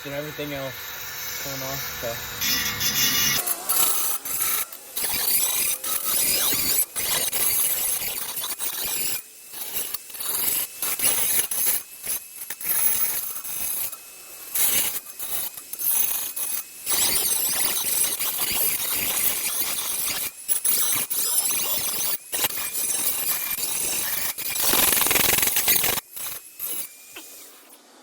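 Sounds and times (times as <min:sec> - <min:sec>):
rotary tool grinding metal: 0:00.0 - 0:28.0.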